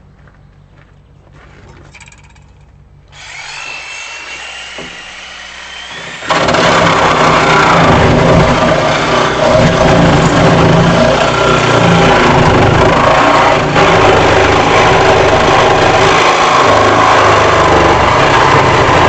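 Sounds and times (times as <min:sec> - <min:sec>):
angle grinder whine: 0:03.1 - 0:19.0
grinder cutting sheet metal: 0:03.1 - 0:19.0.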